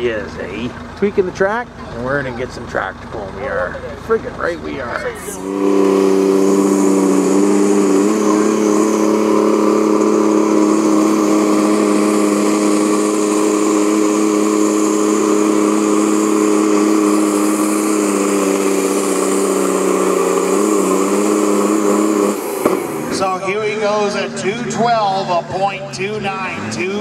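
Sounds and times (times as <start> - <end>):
tractor engine at high revs: 0.0 - 27.0.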